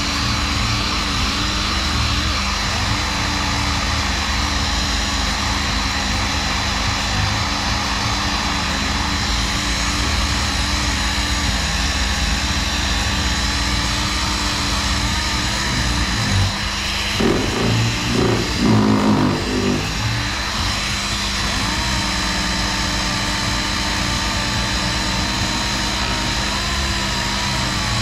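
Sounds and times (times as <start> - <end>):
orbital sander whining and hissing: 0.0 - 28.0.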